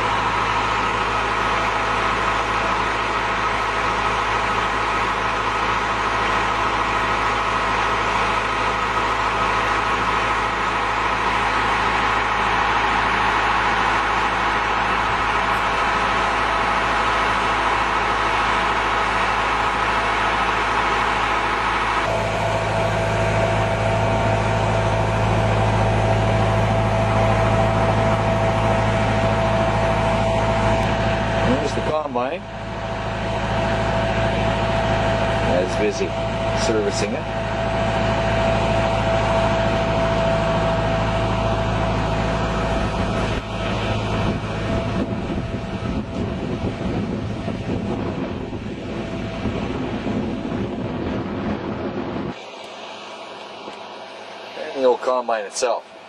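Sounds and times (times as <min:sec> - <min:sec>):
engine running steadily: 0:00.0 - 0:56.0
thin steady whine: 0:00.0 - 0:56.0.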